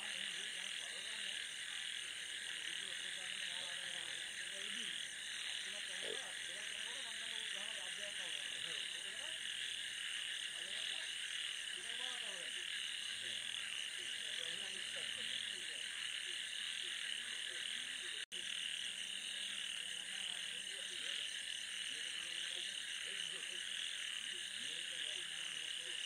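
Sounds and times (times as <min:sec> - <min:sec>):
frogs croaking: 0:00.0 - 0:26.0
steady high-pitched drone: 0:00.0 - 0:26.0.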